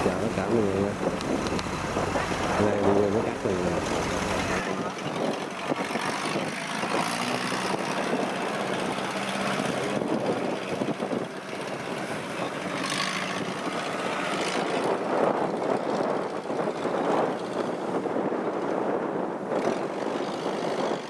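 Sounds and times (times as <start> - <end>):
combine harvester diesel drone: 0.0 - 18.3.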